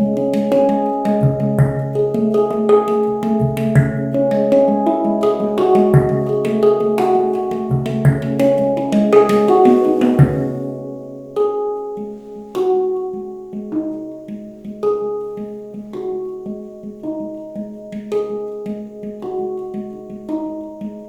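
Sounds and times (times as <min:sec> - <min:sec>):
handpan notes ringing: 0:00.0 - 0:21.0
soft handpan taps: 0:00.0 - 0:21.0.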